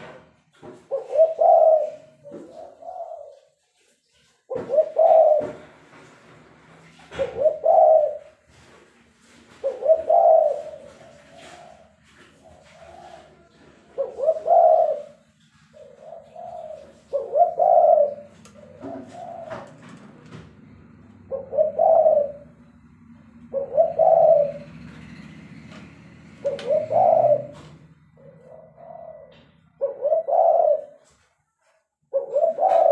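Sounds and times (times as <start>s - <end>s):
doves cooing: 0.8s - 3.6s, 4.5s - 31.2s, 32.1s - 32.9s.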